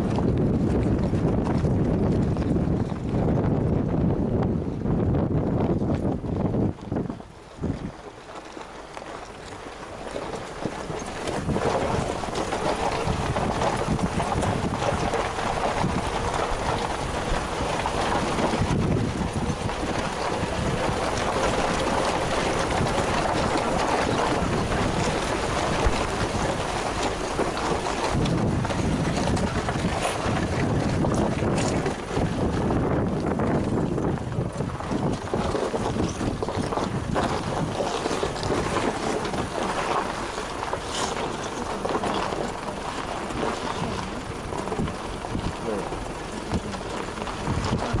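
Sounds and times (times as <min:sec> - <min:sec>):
vehicle engine and tyre noise: 0:00.0 - 0:48.0
wind on microphone: 0:00.0 - 0:48.0.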